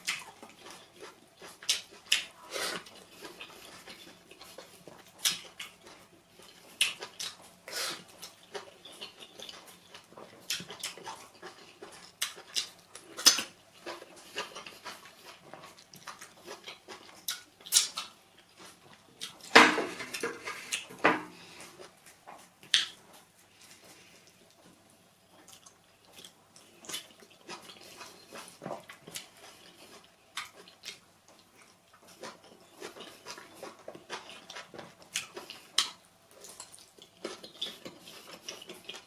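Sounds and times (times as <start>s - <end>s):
wet chewing and mouth smacks: 0.0s - 21.0s, 21.6s - 39.0s.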